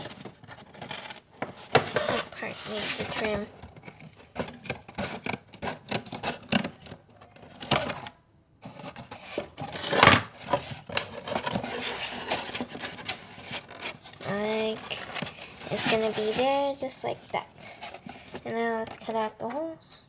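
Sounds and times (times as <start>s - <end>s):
scissors cutting cardboard: 0.0s - 19.2s.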